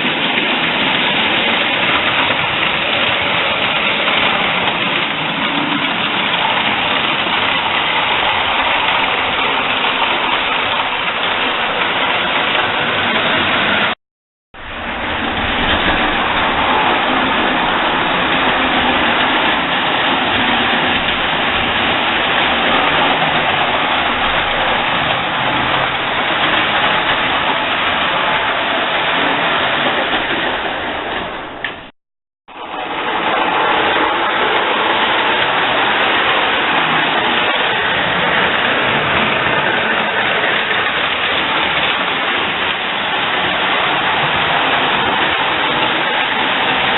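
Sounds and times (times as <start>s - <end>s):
model trains rumbling on metal track: 0.0s - 14.0s, 14.6s - 31.9s, 32.5s - 46.9s.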